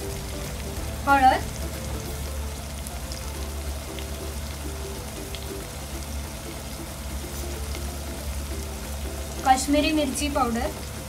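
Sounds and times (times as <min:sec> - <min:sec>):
background music: 0:00.0 - 0:11.0
food frying in oil: 0:00.0 - 0:11.0.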